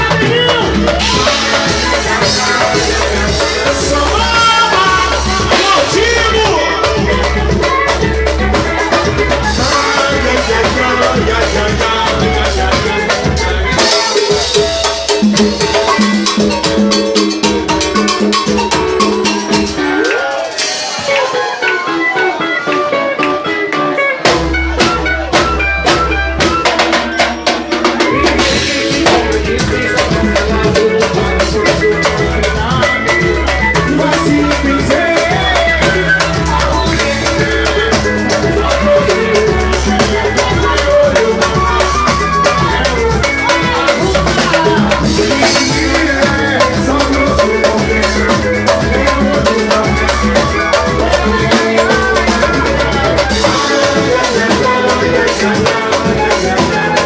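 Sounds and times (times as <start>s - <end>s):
drum kit beat: 0.0s - 57.0s
live band music: 0.0s - 57.0s.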